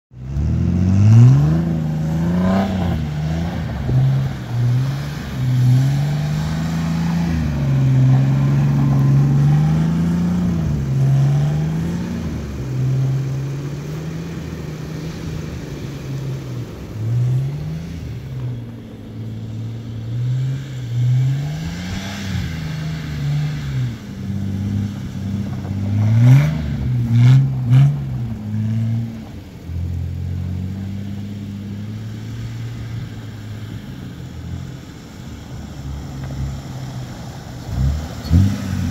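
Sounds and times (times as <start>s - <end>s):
engine revving: 0.1s - 38.9s.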